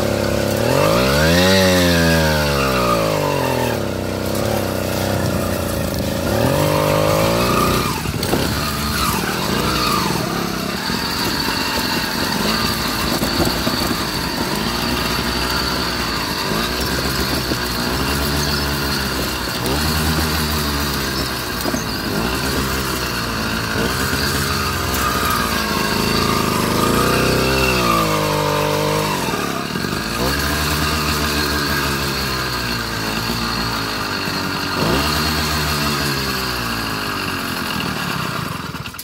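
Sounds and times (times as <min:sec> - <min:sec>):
small engine revving: 0:00.0 - 0:39.0.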